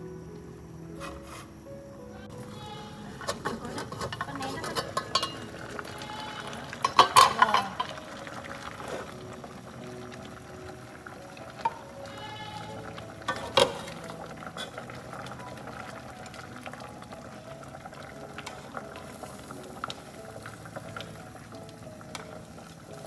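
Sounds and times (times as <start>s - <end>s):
mixture bubbling in a pot: 3.1s - 23.0s.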